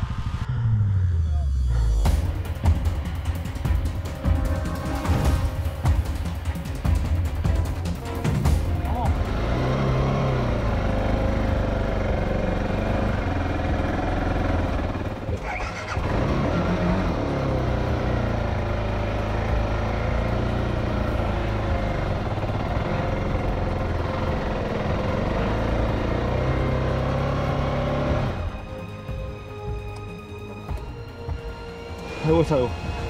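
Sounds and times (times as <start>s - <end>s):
motorcycle engine running: 2.0s - 28.6s.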